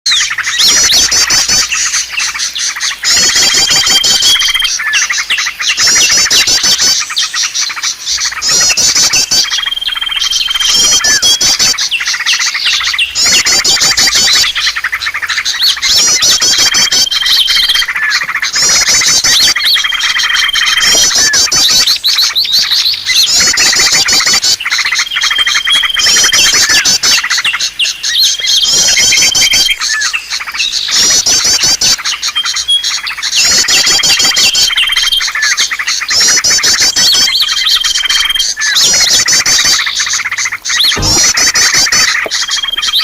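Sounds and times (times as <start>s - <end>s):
songbirds chirping and twittering: 0.1s - 43.0s.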